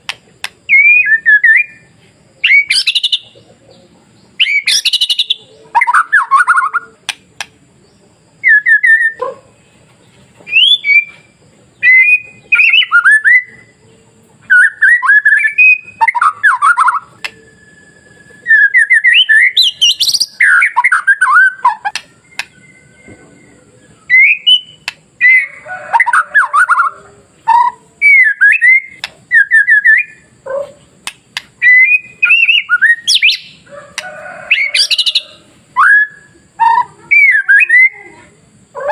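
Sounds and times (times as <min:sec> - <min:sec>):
songbird whistling song: 0:00.0 - 0:38.9.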